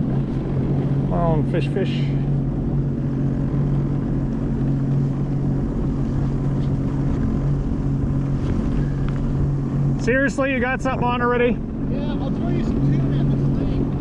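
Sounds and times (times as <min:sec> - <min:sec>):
watercraft engine humming: 0:00.0 - 0:14.0
wind noise on microphone: 0:02.4 - 0:14.0.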